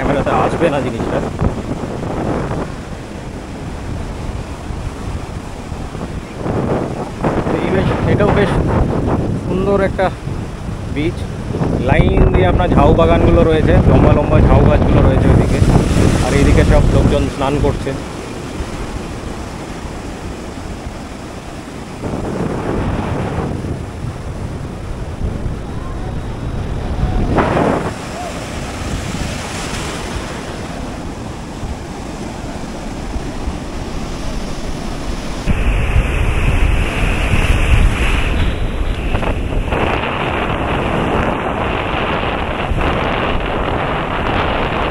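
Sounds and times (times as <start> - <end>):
sea waves breaking on beach: 0.0 - 44.9
wind on microphone: 0.0 - 44.9.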